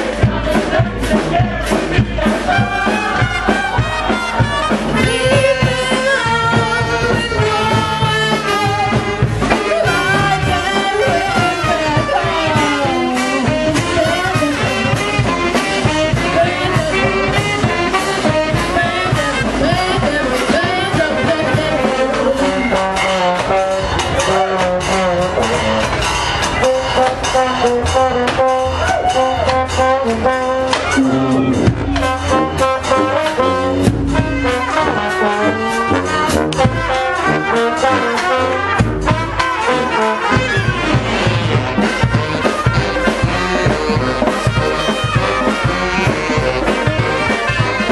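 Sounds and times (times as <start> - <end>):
snare drum: 0.0 - 31.1, 31.7 - 47.9
bass drum: 0.0 - 47.9
saxophones: 0.0 - 47.9
trombones: 0.0 - 47.9.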